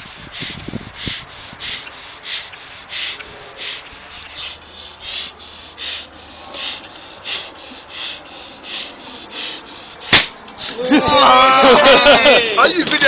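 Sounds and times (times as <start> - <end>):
person breathing hard: 0.0 - 10.9.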